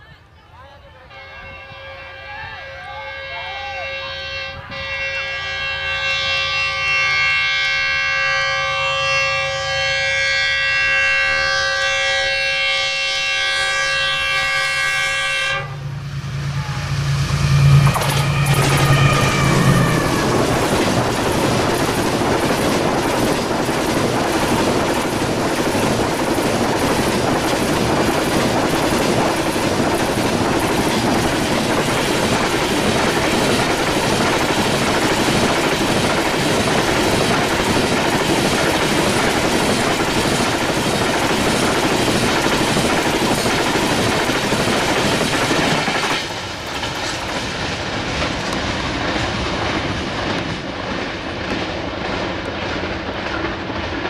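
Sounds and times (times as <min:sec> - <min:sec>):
freight train rumbling past: 0:01.1 - 0:54.0.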